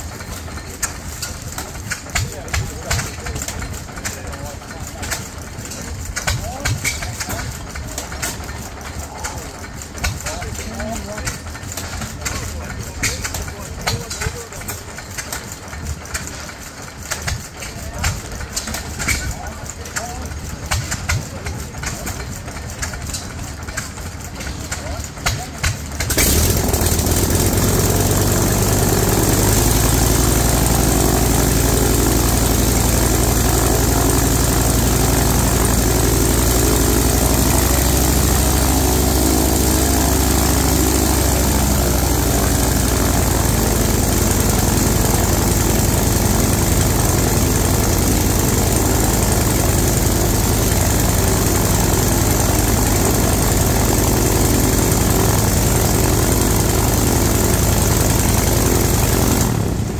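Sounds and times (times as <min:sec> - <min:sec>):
radial aero engine running: 0:00.0 - 0:59.9.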